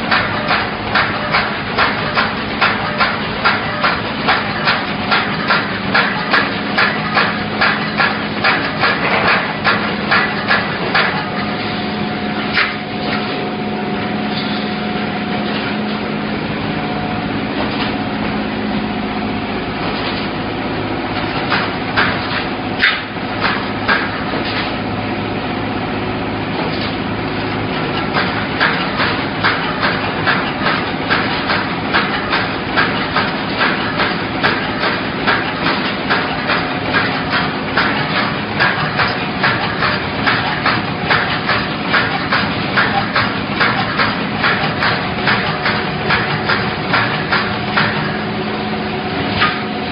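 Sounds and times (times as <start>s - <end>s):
welding machine clanking: 0.0s - 18.3s, 19.7s - 24.8s, 26.5s - 49.9s.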